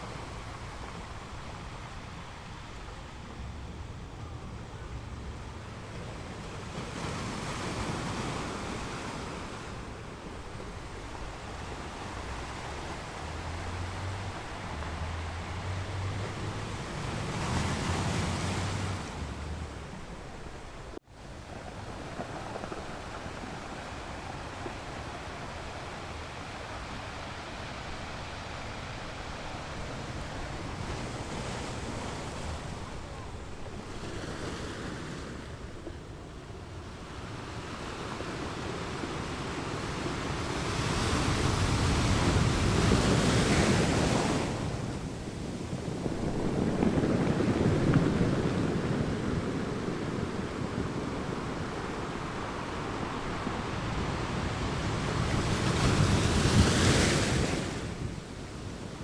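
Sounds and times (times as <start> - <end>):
waves breaking on beach: 0.0 - 59.0.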